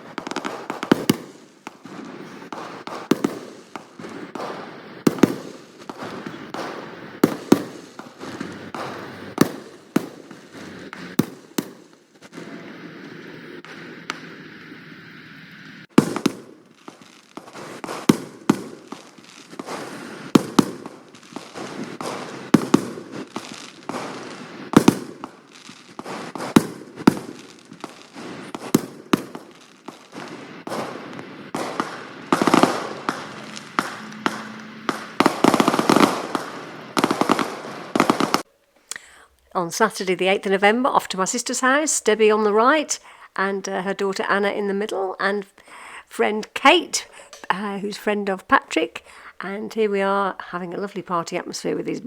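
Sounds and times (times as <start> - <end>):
firework bangs: 0.0 - 39.2, 40.0 - 49.4
firework crackling: 0.0 - 52.0.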